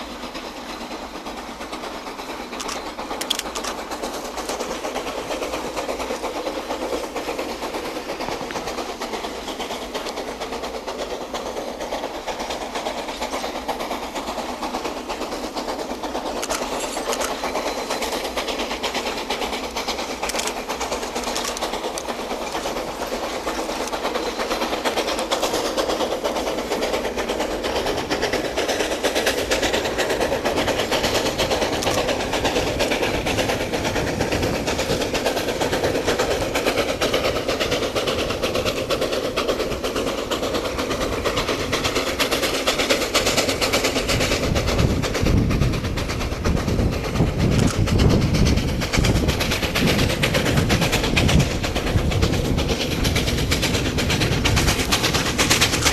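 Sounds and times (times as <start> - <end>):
train wheels clattering on rails: 0.0 - 55.9.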